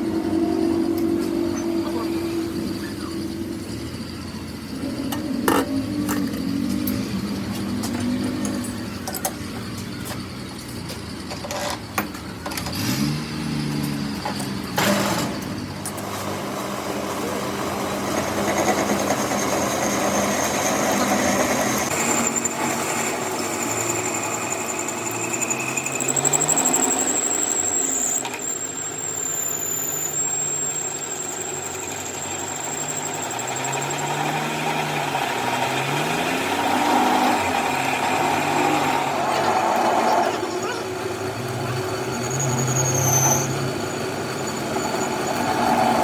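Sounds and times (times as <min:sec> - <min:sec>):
machine whining and rumbling: 0:00.0 - 0:46.0.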